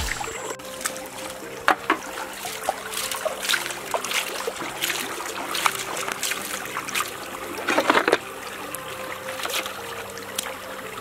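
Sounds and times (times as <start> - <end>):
stream running over stones: 0.0 - 11.0
water splashing in metal basin: 0.0 - 11.0.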